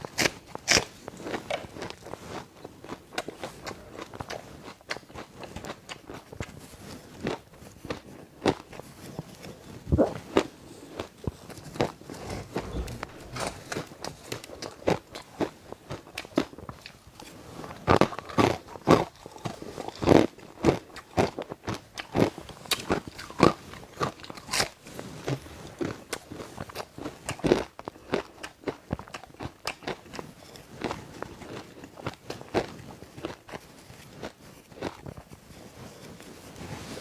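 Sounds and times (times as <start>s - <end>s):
ice being chewed: 0.0s - 13.7s, 14.6s - 36.3s.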